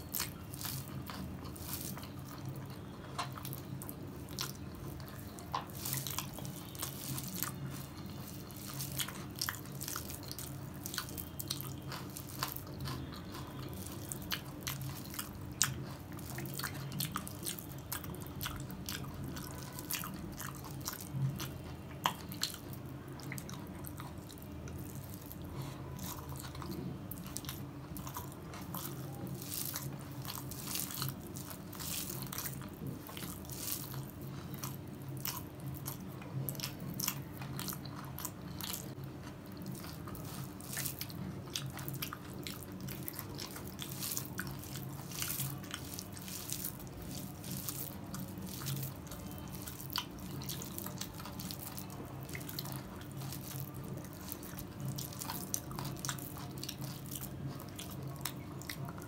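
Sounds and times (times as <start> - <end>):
wet chewing clicks: 0.0 - 59.0.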